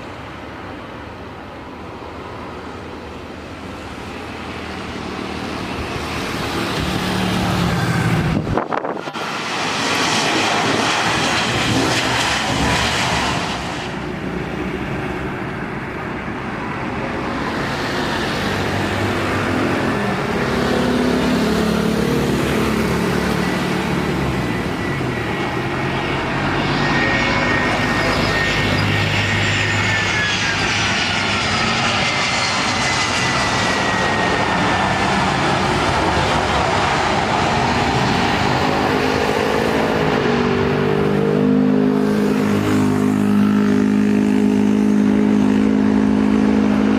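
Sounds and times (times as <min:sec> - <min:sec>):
jet airliner passing by: 0:00.0 - 0:46.9.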